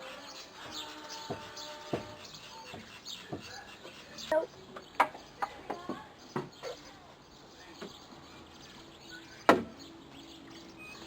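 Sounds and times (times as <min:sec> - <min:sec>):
bird chirps: 0:00.0 - 0:05.4, 0:06.2 - 0:11.0.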